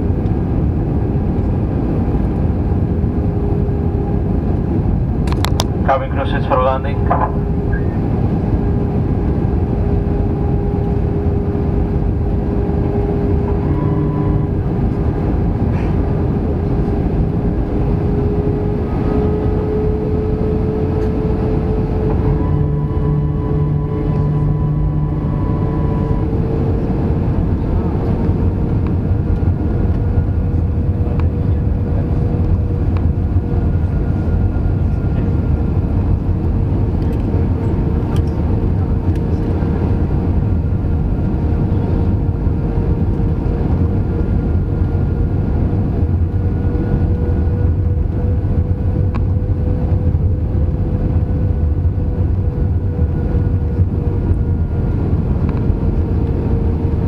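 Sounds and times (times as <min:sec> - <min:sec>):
jet engines and rushing air: 0:00.0 - 0:57.0
steady cabin hum: 0:00.0 - 0:57.0.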